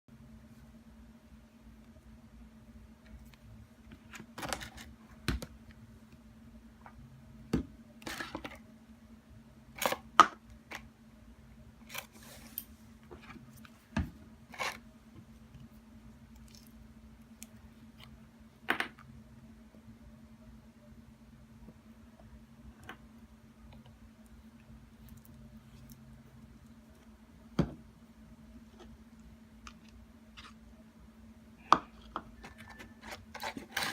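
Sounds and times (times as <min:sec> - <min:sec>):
steady low hum: 0:00.1 - 0:33.9.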